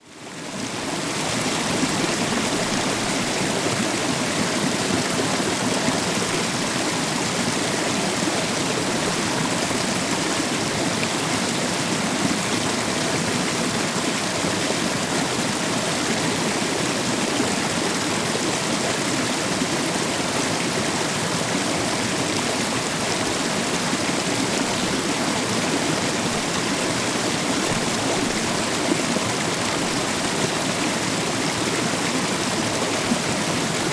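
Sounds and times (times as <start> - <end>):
waterfall rushing: 0.8 - 33.9.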